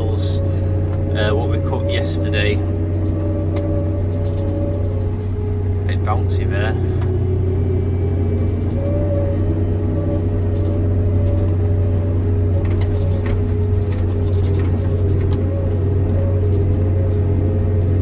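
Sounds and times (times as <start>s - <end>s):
light rattles: 0.0s - 18.0s
tractor engine droning: 0.0s - 18.0s.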